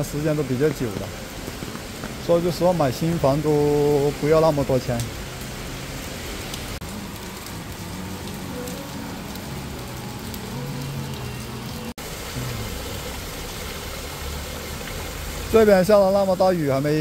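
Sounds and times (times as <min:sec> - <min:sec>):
rain on wet street: 0:00.0 - 0:17.0
traffic hum: 0:00.0 - 0:17.0.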